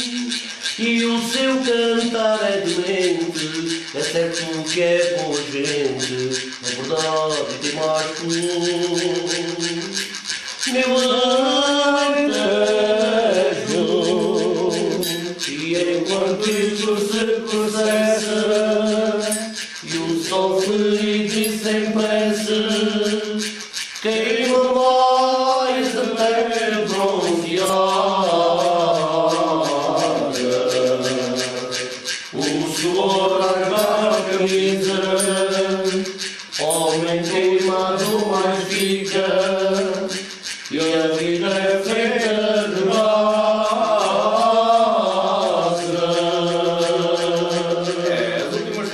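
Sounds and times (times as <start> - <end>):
group of men singing: 0.0 - 48.9
rattling percussion shaking: 0.0 - 48.9.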